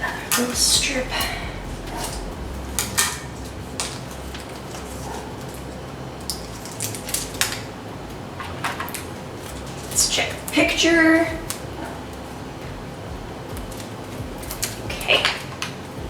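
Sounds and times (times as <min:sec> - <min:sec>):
small clicks and ticks: 0:00.0 - 0:16.0.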